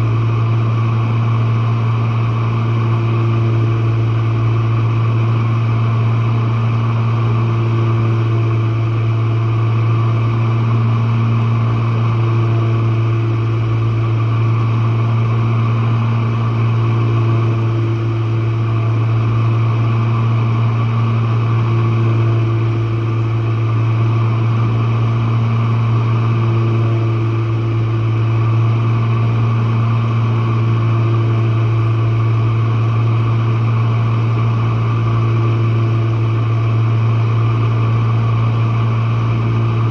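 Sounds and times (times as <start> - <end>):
dishwasher pump motor humming: 0.0 - 39.9.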